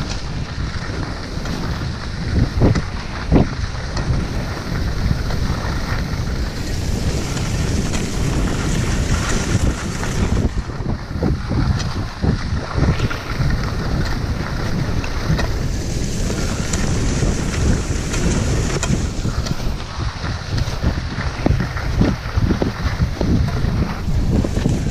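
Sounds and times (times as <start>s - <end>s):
skis hissing over snow: 0.0s - 24.9s
wind buffeting microphone: 0.0s - 24.9s.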